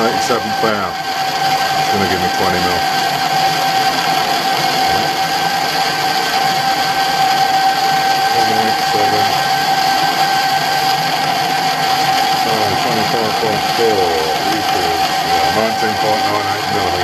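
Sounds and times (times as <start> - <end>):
lathe gear whine: 0.0 - 17.0.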